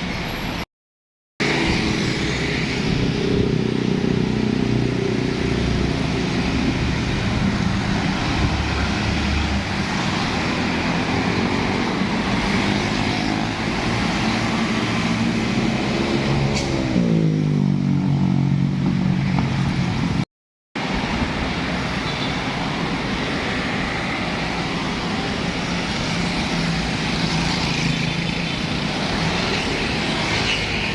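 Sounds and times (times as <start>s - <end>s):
road traffic noise: 0.0s - 0.7s, 1.4s - 30.9s.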